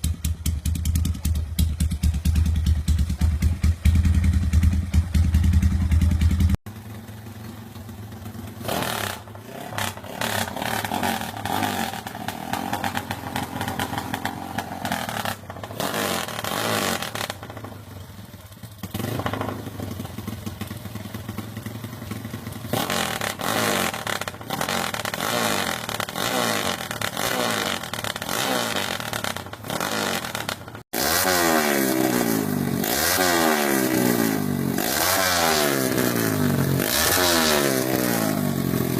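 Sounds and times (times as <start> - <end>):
motorcycles revving: 0.0 - 38.9.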